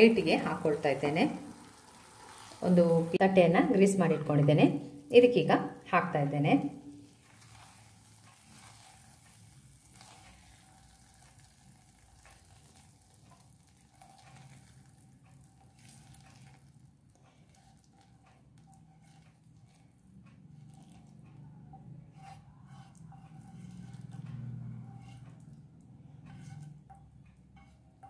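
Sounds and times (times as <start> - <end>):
spatula scraping pan: 0.0 - 4.9, 6.0 - 28.0.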